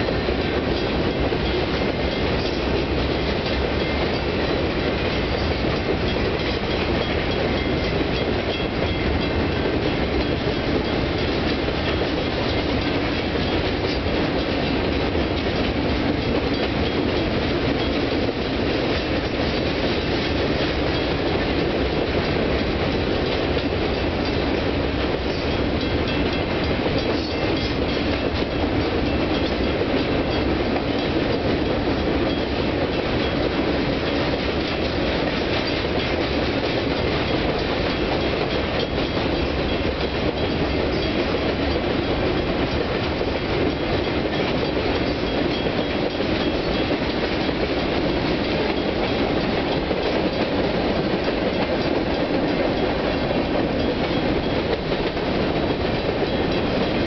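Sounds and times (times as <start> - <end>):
freight train wheels clattering on rails: 0.0 - 57.0.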